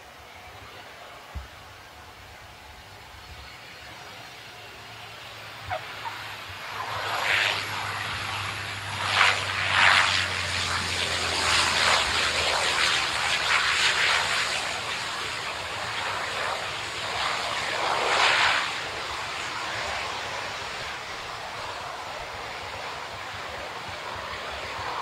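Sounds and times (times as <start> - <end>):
turboprop engine and propeller drone: 0.0 - 25.0.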